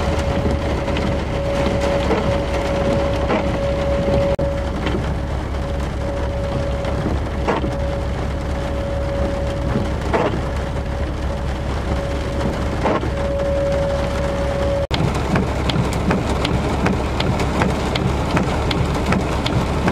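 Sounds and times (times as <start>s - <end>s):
low rumble: 0.0s - 19.9s
steady rain: 0.0s - 19.9s.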